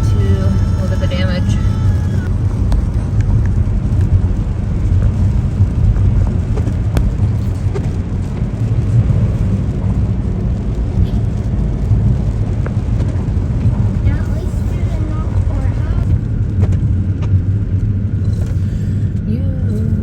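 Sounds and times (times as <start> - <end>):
vehicle driving rumble: 0.0 - 20.0.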